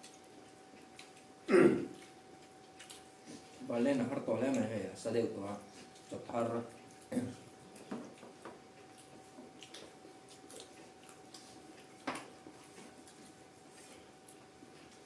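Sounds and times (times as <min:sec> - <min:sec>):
faint steady hum: 0:00.0 - 0:15.0
soft chewing: 0:00.0 - 0:15.0.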